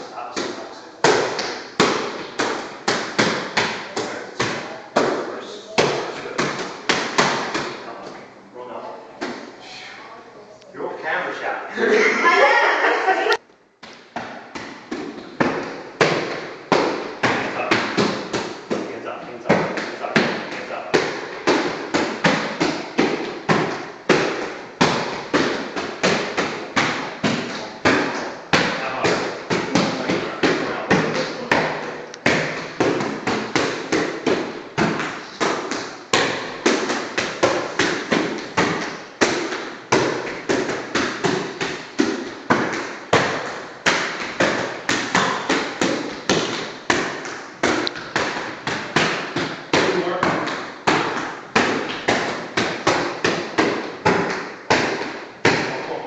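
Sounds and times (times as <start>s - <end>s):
boxing gloves slapping mitts: 0.0s - 7.8s, 13.8s - 56.0s.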